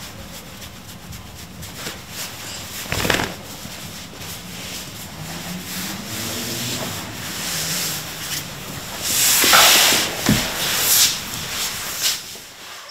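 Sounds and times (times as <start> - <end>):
hand rubbing cat fur: 0.0 - 12.9
rustle of fur and clothing: 0.0 - 12.9.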